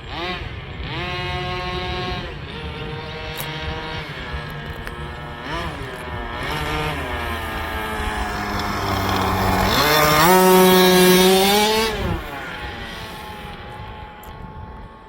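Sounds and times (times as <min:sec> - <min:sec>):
small rc truck engine revving: 0:00.0 - 0:15.0.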